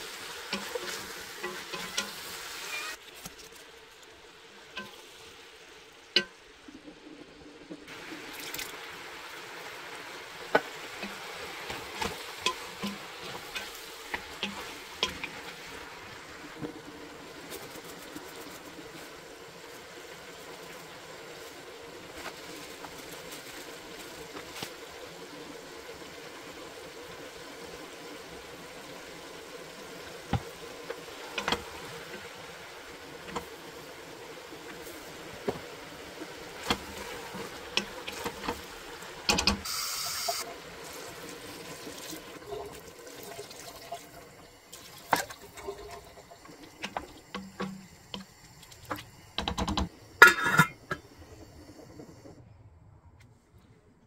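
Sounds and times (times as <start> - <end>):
pot bubbling and hissing: 0.0 - 54.0.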